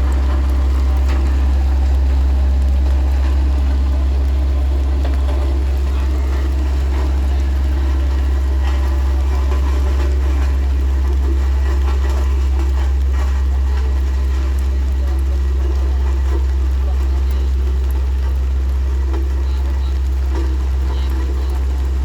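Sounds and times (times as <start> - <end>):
engine idling: 0.0 - 22.0
faint clatter: 0.0 - 22.0.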